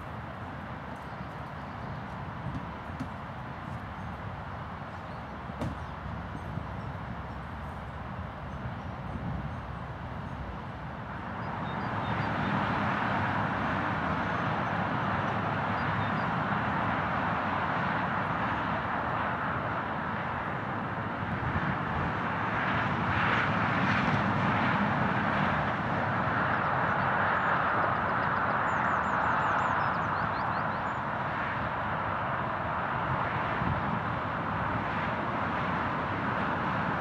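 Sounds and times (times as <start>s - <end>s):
distant vehicle engines roaring: 0.0s - 37.0s.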